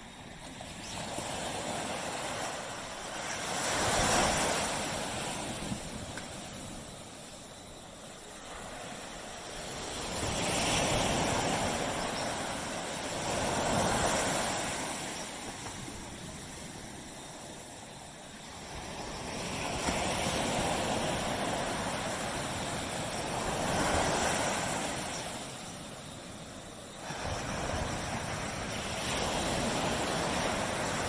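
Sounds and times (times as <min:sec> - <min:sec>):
waves breaking on shore: 0:00.0 - 0:31.0.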